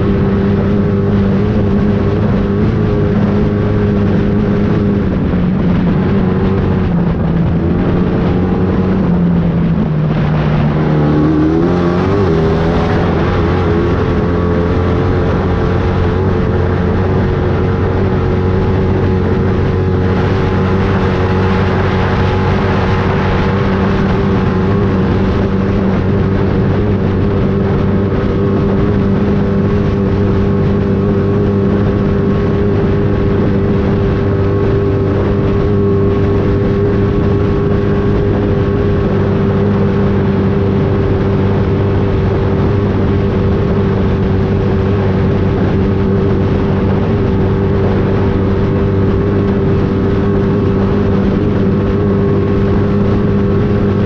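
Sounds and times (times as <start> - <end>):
race vehicle engine running: 0.0 - 54.0.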